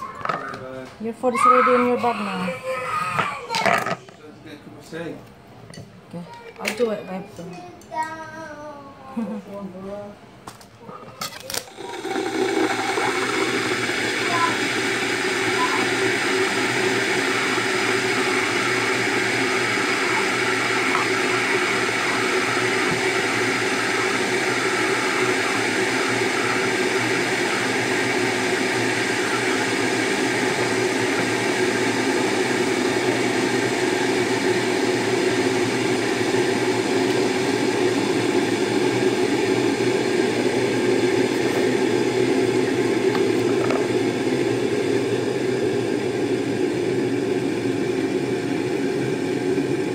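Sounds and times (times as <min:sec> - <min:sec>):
kitchen appliance whirring: 0:00.0 - 0:04.3, 0:10.6 - 0:49.9.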